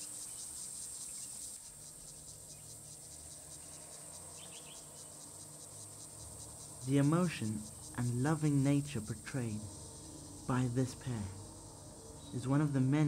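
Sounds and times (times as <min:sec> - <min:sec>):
insects trilling: 0:00.0 - 0:13.0
faint low hum: 0:01.9 - 0:13.0.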